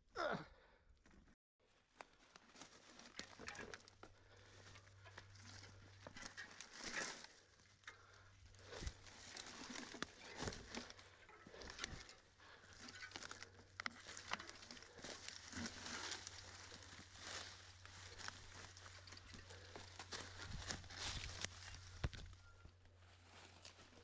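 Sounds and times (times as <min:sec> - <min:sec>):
bike tyres crunching leaves: 0:01.7 - 0:24.0
footsteps on dry leaves: 0:01.8 - 0:07.8, 0:08.5 - 0:24.0
twigs cracking: 0:01.8 - 0:24.0.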